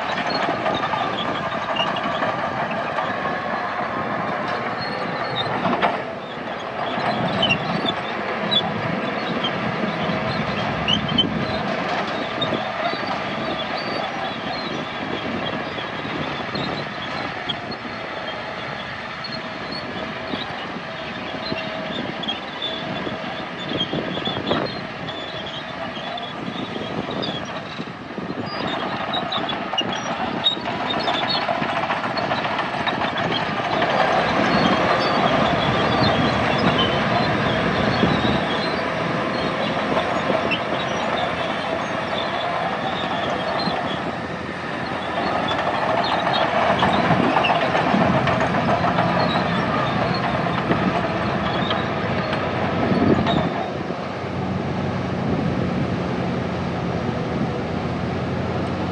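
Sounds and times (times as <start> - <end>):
steel tracks clattering: 0.0 - 56.4
bulldozer diesel engine: 0.0 - 58.9.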